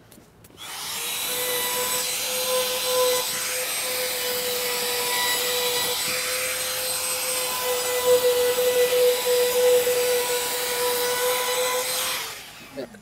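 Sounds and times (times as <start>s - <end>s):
trim router whining: 0.6s - 13.0s.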